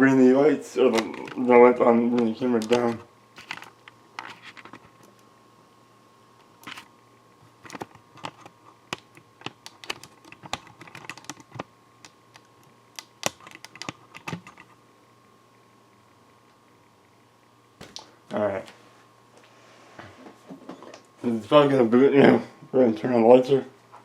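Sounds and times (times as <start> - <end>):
faint high hum: 0.0 - 24.0.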